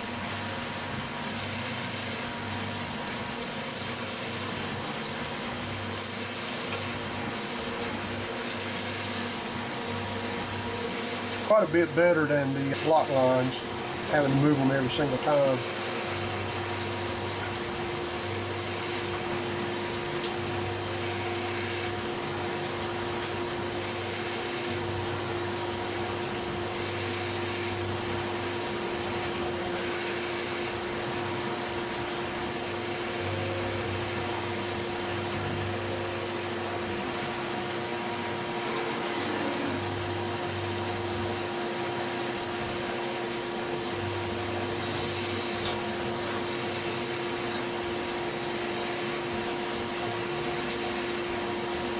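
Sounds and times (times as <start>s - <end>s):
coolant spraying hiss: 0.0s - 51.9s
machine hum: 0.0s - 51.9s.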